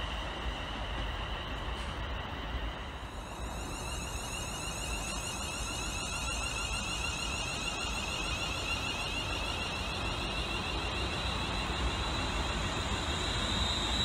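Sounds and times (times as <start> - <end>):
warbling electric whine: 0.0 - 14.0.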